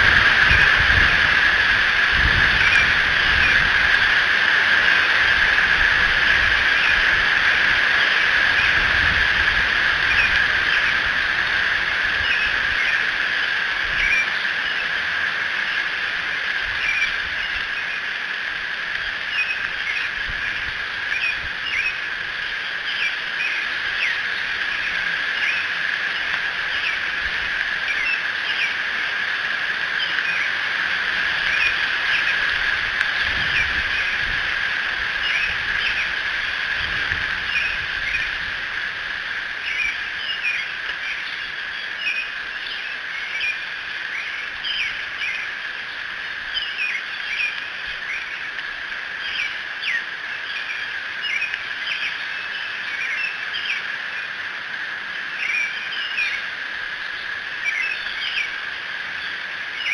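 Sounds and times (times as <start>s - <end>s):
birds chirping: 0.0s - 59.9s
steady background hiss: 0.0s - 59.9s.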